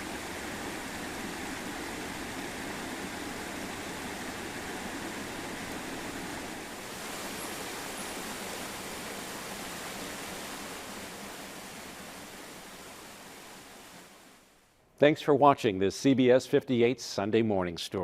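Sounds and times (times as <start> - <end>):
running water rushing: 0.0 - 14.6.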